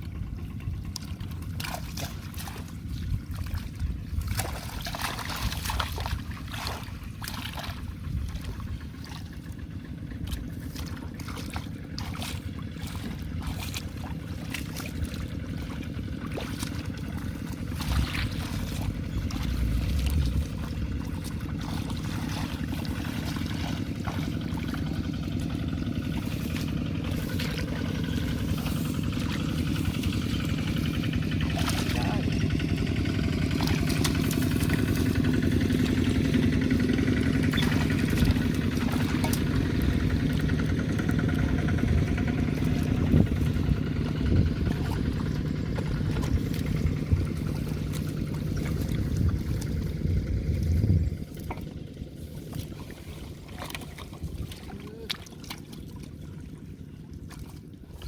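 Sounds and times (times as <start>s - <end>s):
shallow water splashing and trickling: 0.0s - 58.0s
steady low rumble: 0.0s - 58.0s.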